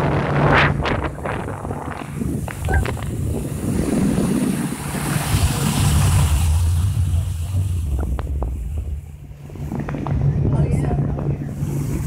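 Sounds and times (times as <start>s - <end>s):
boat motor droning: 0.0s - 12.0s
wind buffeting microphone: 0.0s - 12.0s.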